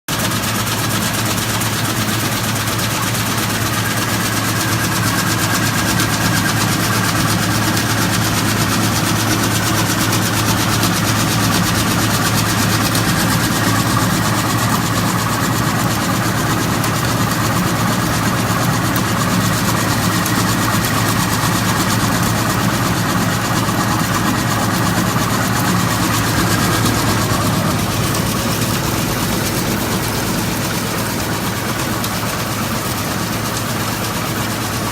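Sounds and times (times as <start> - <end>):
machine humming and rushing: 0.1 - 34.6.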